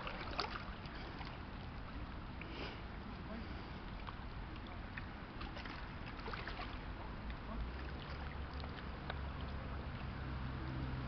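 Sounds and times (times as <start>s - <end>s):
low steady hum: 0.0s - 11.0s
water lapping against shore: 0.0s - 11.0s
wind: 0.0s - 11.0s.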